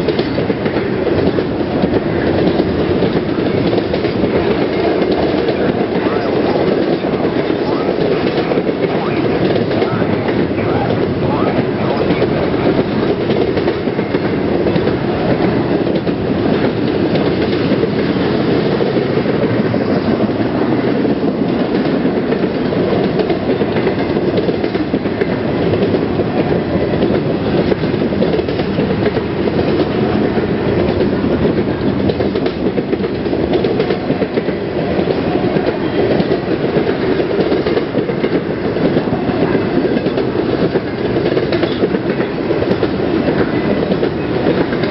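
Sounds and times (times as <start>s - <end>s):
freight train rumbling past: 0.0s - 44.9s
wheels clickety-clack: 0.0s - 44.9s.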